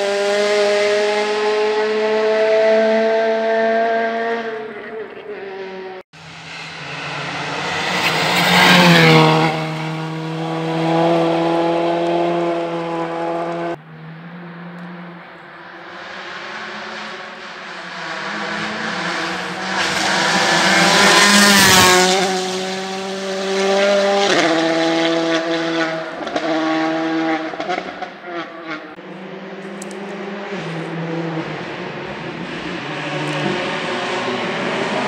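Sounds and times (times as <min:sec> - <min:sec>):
rally car engine passing: 0:00.0 - 0:35.0.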